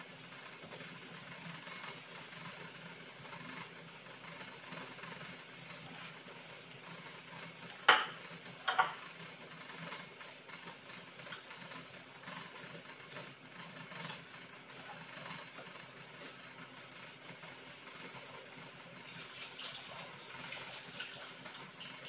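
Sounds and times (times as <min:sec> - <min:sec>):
kitchen appliance fan hum: 0:00.0 - 0:22.0.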